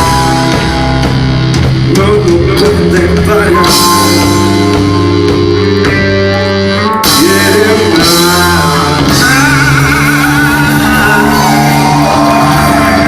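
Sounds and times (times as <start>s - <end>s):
electric guitar: 0.0s - 13.0s
rock band playing: 0.0s - 13.0s.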